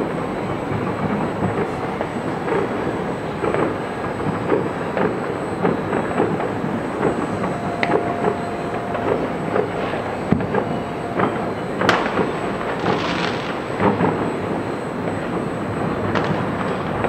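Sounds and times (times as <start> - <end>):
city rumble: 0.0 - 17.0
crackling hiss: 0.0 - 17.0
distant fireworks bangs and pops: 0.0 - 17.0.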